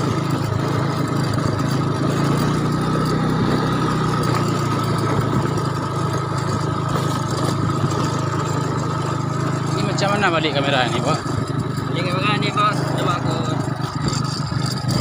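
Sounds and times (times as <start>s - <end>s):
mechanical engine drone: 0.0s - 15.0s.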